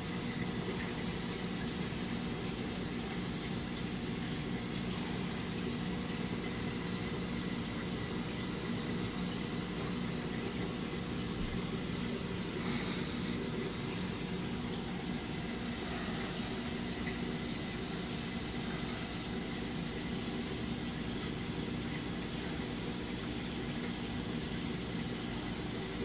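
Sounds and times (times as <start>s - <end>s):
aquarium equipment hum: 0.0s - 26.0s
moving water: 0.1s - 26.0s.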